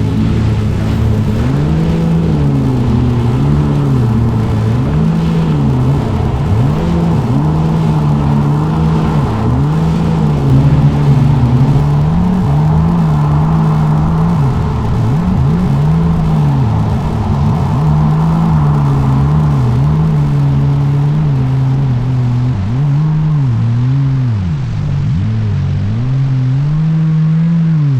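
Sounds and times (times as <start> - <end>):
car engine running: 0.0 - 27.9
wind and road noise: 0.0 - 27.9.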